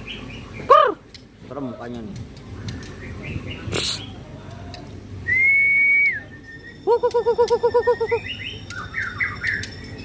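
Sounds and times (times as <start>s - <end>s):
birds singing: 0.0s - 1.7s, 2.4s - 4.9s, 6.1s - 10.0s.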